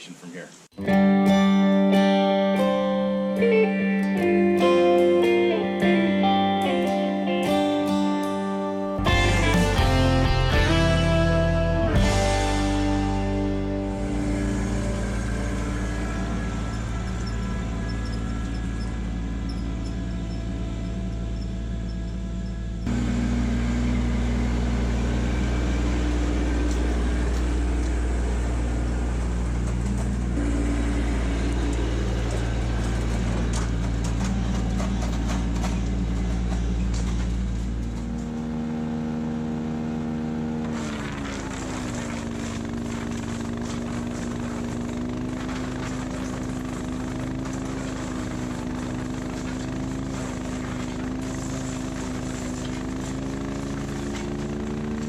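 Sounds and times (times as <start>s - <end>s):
tractor diesel engine running: 7.9s - 55.0s.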